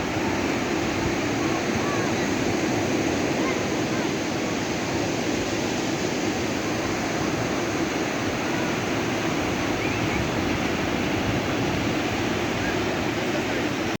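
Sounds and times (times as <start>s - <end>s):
sea waves rushing: 0.0s - 14.0s.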